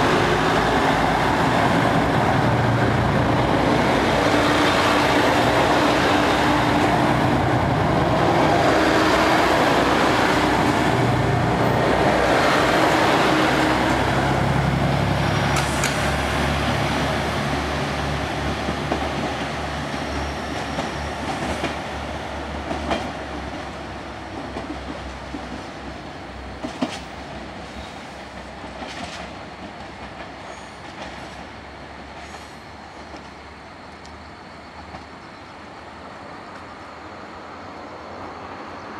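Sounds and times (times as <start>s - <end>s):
diesel train engines running: 0.0s - 38.9s
train wheels rumbling on rails: 0.0s - 38.9s.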